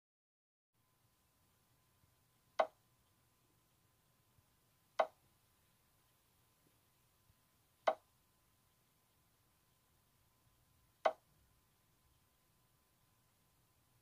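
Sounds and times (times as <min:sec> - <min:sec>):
faint steady tone: 0:00.8 - 0:14.0.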